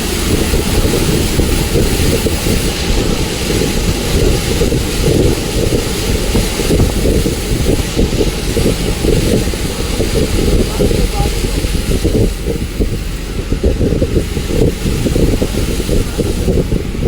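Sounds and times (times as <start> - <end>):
moving bus rumble: 0.0 - 17.0.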